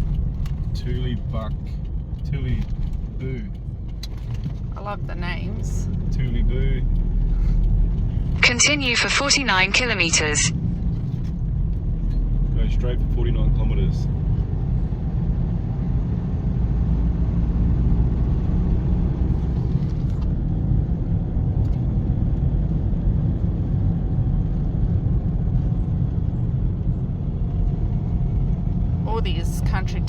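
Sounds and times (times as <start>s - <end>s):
engine and tyre rumble inside car: 0.0s - 30.0s.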